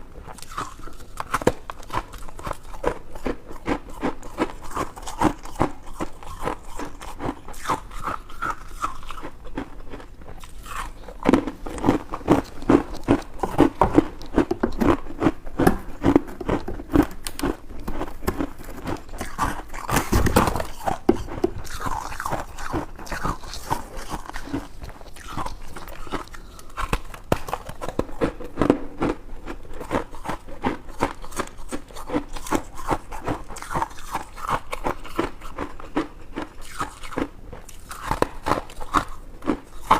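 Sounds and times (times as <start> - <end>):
ice being chewed: 0.3 - 39.9.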